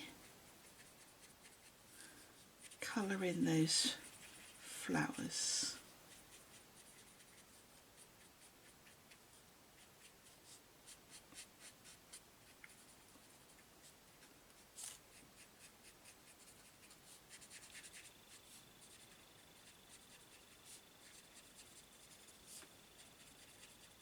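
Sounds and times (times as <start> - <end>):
pen scratching on paper: 0.6 - 2.8, 3.9 - 4.7, 6.1 - 13.6, 14.8 - 24.0.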